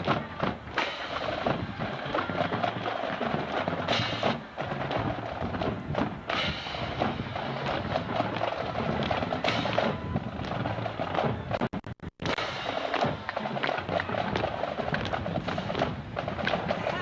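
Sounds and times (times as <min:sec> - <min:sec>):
drum beats: 0:00.0 - 0:17.0
marching band playing: 0:00.0 - 0:17.0.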